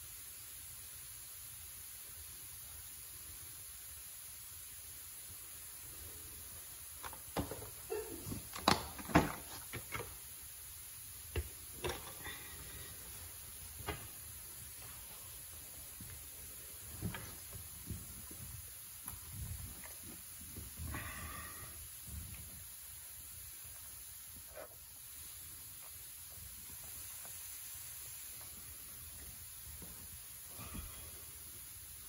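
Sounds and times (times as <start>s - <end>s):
room tone hiss: 0.0s - 32.0s.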